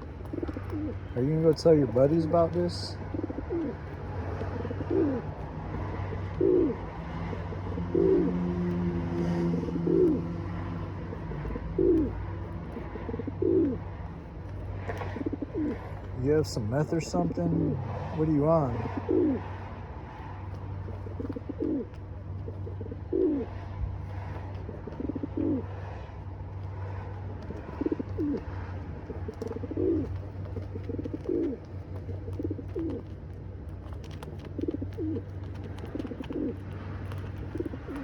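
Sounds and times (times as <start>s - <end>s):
pigeon cooing: 0.0s - 38.0s.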